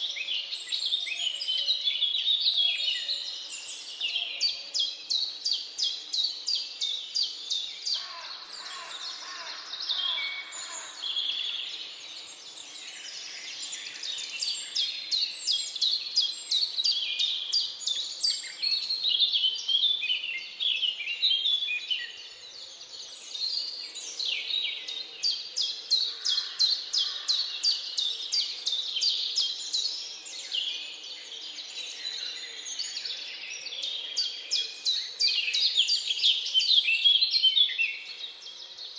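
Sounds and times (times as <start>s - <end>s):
woodland birds singing: 0.0s - 38.9s.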